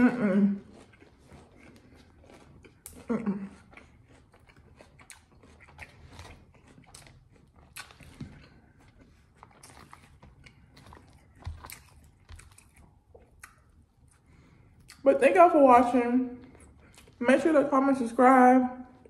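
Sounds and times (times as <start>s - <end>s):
person chewing lettuce: 0.0s - 18.0s.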